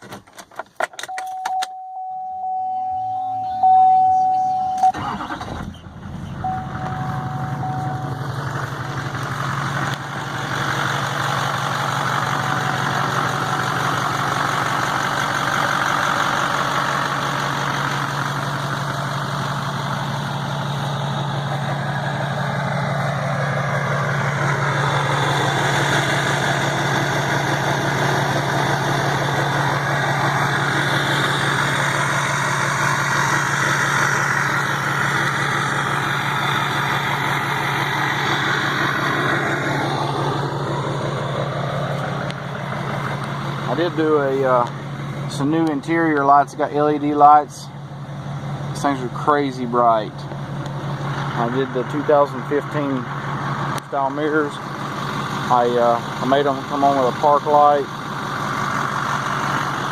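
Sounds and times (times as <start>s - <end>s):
diesel engine idling: 1.8s - 59.9s.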